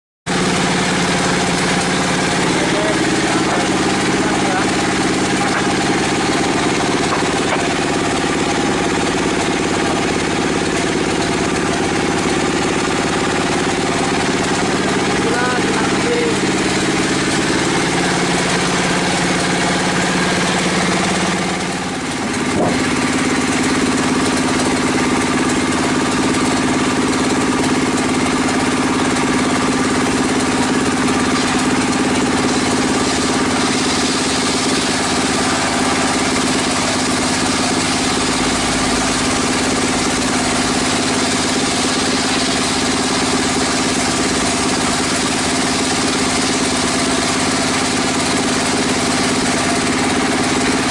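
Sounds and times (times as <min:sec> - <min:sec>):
circular saw ripping timber: 0:00.3 - 0:50.9.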